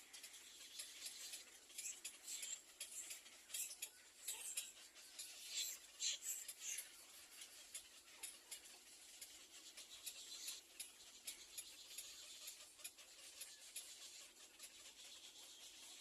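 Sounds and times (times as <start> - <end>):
faint rustling and scratching: 0.0 - 16.0.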